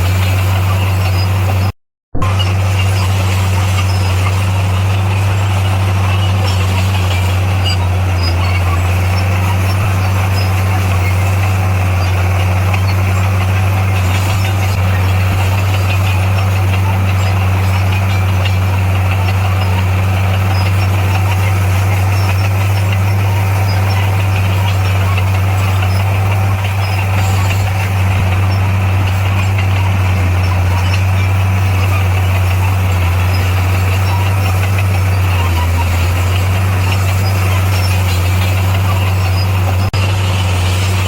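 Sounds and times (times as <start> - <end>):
heavy machine engine droning: 0.0 - 41.0.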